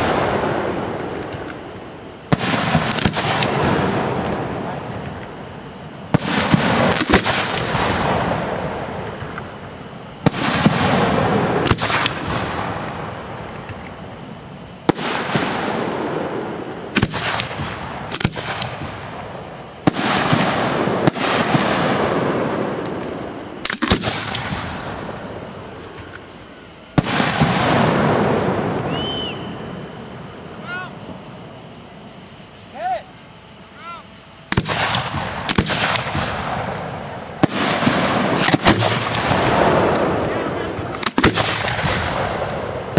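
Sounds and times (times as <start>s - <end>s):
fireworks bursting with bangs: 0.0s - 33.3s, 34.4s - 42.9s.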